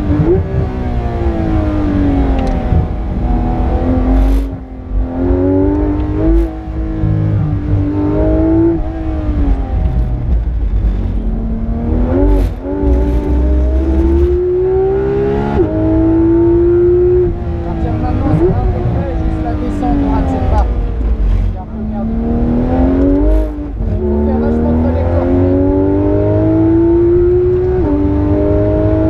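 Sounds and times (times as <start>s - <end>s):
car engine at full load: 0.0s - 29.0s.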